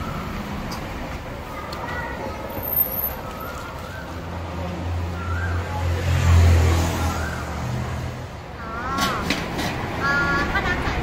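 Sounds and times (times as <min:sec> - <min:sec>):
vehicle engine hum passing: 0:00.0 - 0:11.0.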